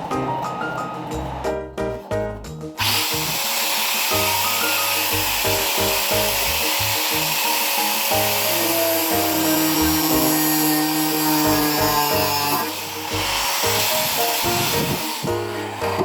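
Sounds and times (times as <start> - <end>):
background music: 0.0 - 16.0
power tool cutting pipe: 2.6 - 16.0.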